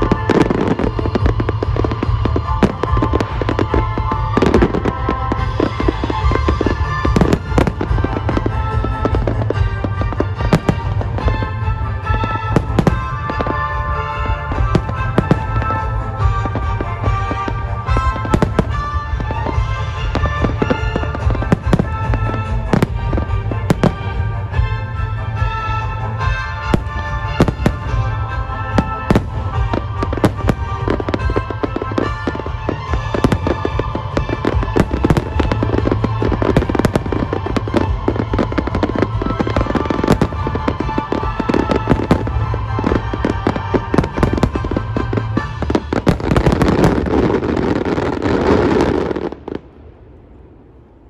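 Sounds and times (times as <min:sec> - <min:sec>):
music: 0:00.0 - 0:49.7
fireworks bursting: 0:00.0 - 0:51.0.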